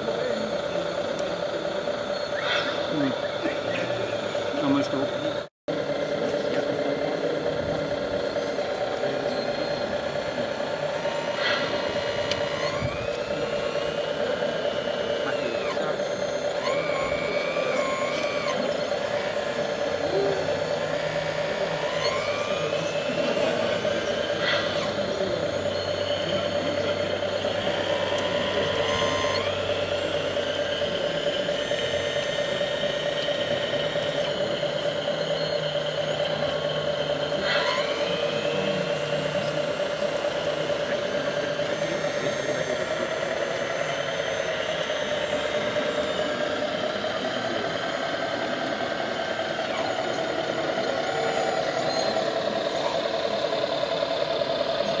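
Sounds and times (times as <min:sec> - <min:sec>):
electric motor and hydraulic whine: 0:00.0 - 0:55.0.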